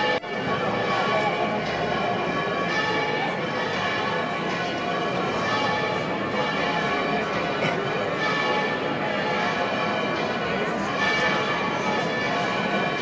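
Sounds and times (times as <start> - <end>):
bells ringing in peals: 0.0 - 13.0
crowd chatter: 0.0 - 13.0.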